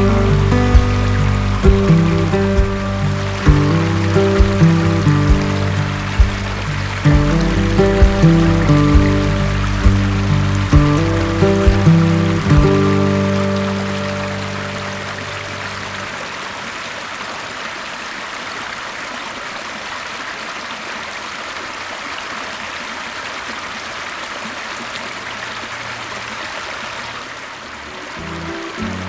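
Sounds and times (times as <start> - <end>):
creek water babbling: 0.0 - 29.0.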